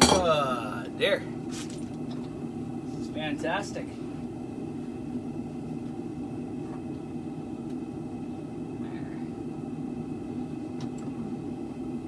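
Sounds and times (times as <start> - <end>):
faint hum: 0.0 - 12.0
workshop equipment roaring: 0.0 - 12.0.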